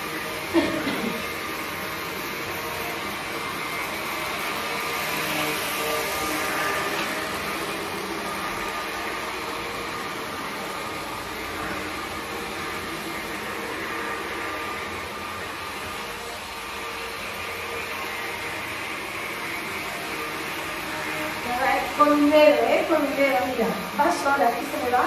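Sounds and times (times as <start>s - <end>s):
stick vacuum running on carpet: 0.0s - 25.0s.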